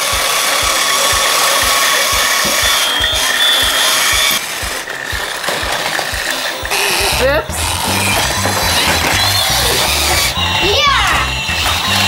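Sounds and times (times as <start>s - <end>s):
background music with steady beat: 0.0s - 12.0s
thin high whine: 0.0s - 12.0s
toy motor whirring: 0.0s - 12.0s.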